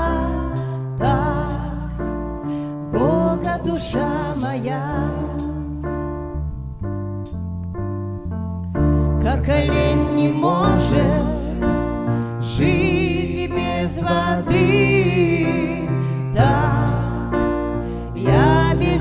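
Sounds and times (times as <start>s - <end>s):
person singing with vibrato: 0.0s - 5.9s, 9.2s - 19.0s
bass guitar long notes: 0.0s - 19.0s
keyboard: 0.0s - 19.0s.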